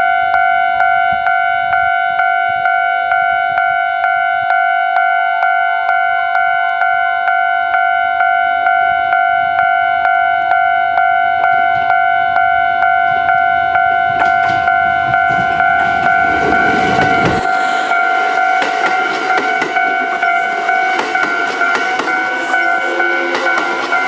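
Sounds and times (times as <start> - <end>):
level-crossing bell dinging: 0.0 - 24.0
train rumbling over crossing: 0.0 - 24.0.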